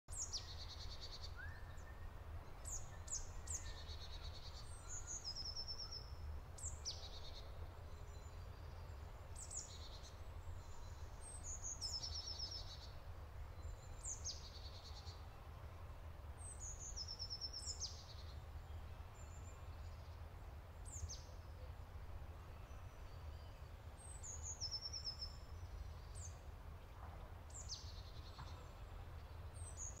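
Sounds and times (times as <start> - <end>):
songbirds chirping and trilling: 0.1 - 30.0.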